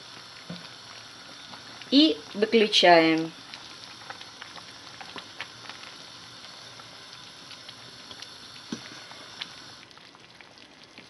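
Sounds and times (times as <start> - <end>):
soup bubbling and popping: 0.0 - 11.0.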